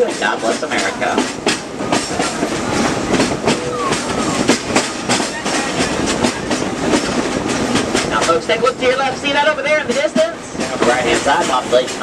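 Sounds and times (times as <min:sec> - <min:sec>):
train cars rattling: 0:00.0 - 0:12.0
wheels clacking on track: 0:00.0 - 0:12.0.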